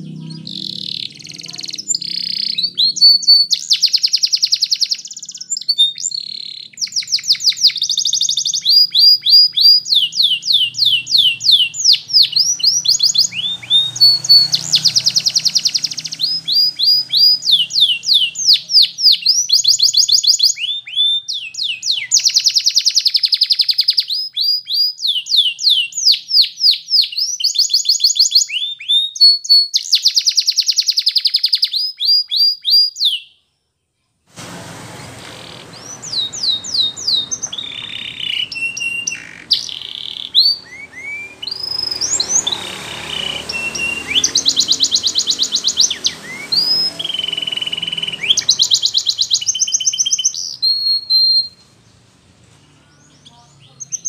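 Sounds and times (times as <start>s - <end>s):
canary singing trills: 0.0s - 33.4s, 35.2s - 54.0s.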